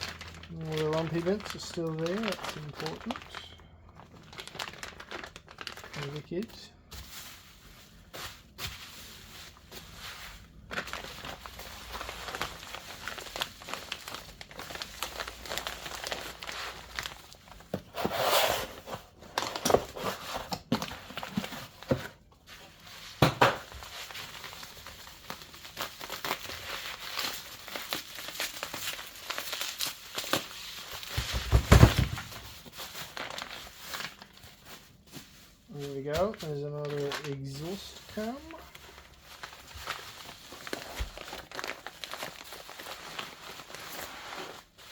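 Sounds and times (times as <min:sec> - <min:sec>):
packaging wrap crinkling and tearing: 0:00.0 - 0:18.0, 0:18.6 - 0:44.9.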